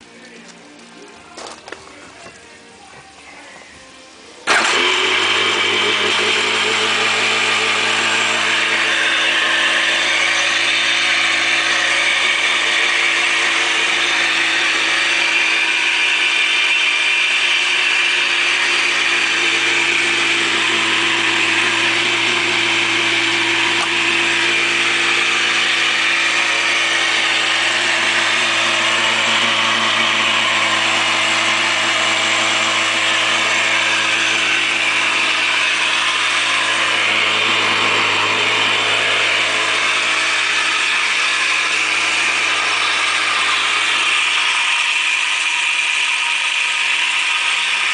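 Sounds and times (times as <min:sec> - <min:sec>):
jet ski engine idling: 0:04.4 - 0:47.9.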